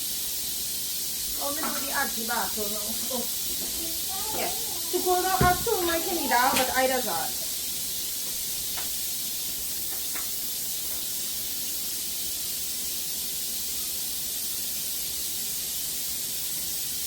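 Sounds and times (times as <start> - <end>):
stove hissing: 0.0 - 17.0.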